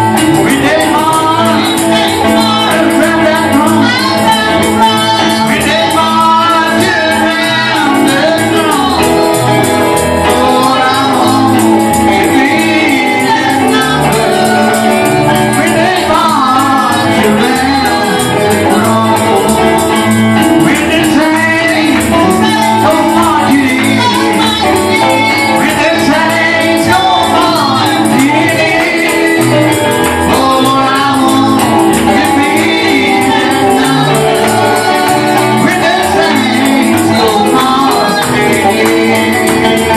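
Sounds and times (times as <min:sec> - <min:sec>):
bass line: 0:00.0 - 0:39.9
gospel singing over a band: 0:00.0 - 0:39.9
tambourine: 0:00.0 - 0:39.9.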